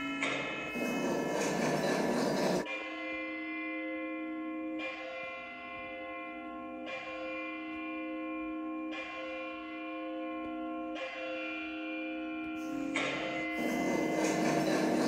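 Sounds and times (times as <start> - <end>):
clock bell striking: 0.0 - 15.0.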